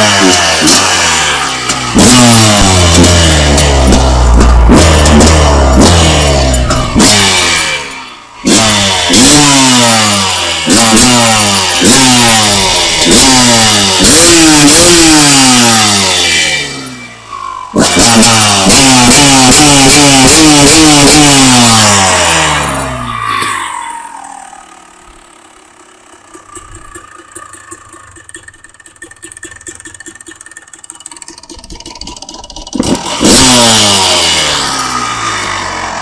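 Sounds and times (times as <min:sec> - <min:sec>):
two-stroke engine revving: 0:00.0 - 0:36.0.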